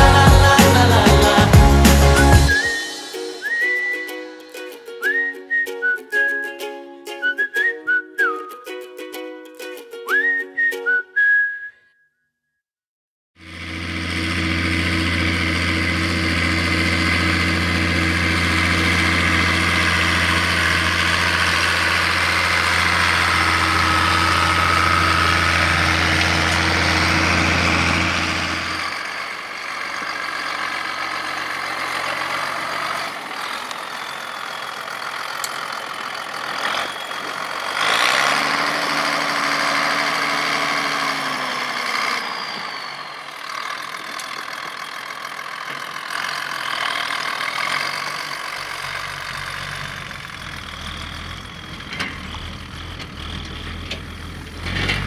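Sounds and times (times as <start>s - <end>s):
tractor diesel engine droning: 0.0s - 6.4s, 7.2s - 8.6s, 10.1s - 11.6s, 13.4s - 55.0s.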